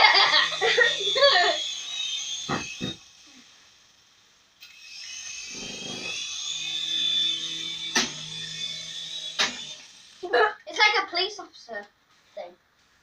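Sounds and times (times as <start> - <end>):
toy helicopter motor whining: 0.0 - 11.0.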